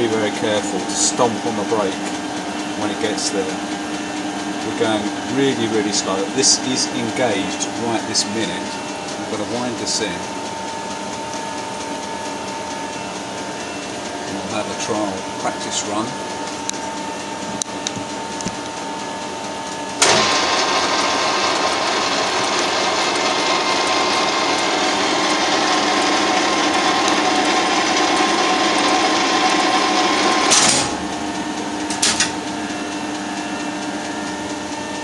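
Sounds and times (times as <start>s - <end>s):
lathe gear and feed noise: 0.0s - 35.0s.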